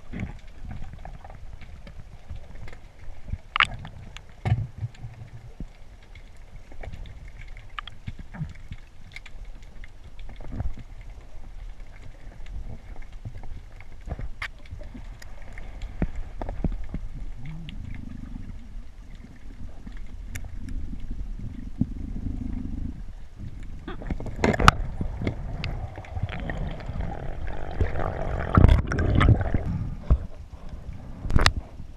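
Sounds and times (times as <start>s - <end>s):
underwater rumble of moving water: 0.0s - 31.9s.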